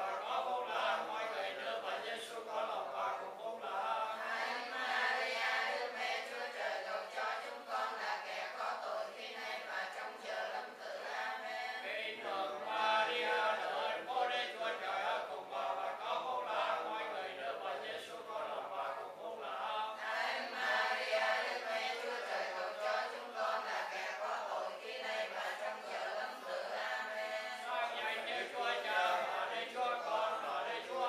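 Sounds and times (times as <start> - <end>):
congregation chanting prayers: 0.0 - 31.0.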